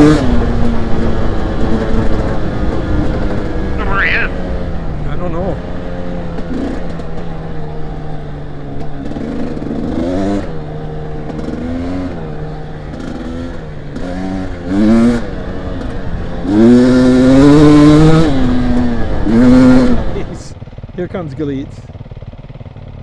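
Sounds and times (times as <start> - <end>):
dirt bike engine revving: 0.0 - 21.4
dirt bike engine idling: 0.3 - 23.0.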